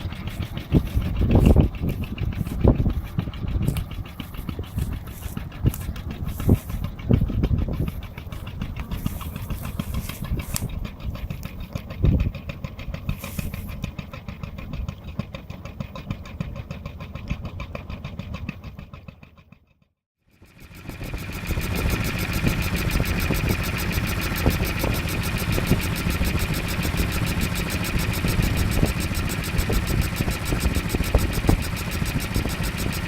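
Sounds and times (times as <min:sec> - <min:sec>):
engine thumps: 0:00.0 - 0:19.2, 0:21.1 - 0:33.0
marine engine idling: 0:00.0 - 0:33.0.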